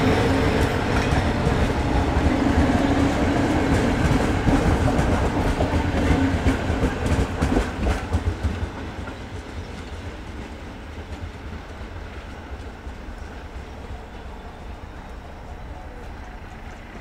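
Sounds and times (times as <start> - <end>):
train wheels clicking over rail joints: 0.0 - 13.7.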